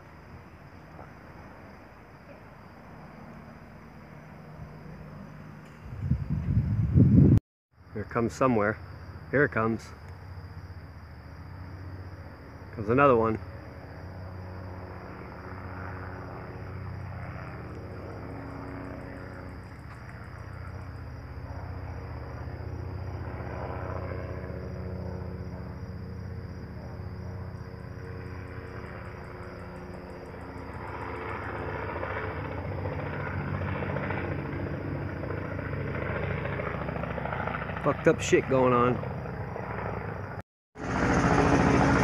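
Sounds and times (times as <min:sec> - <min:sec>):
helicopter rotor drone: 0:00.0 - 0:42.0.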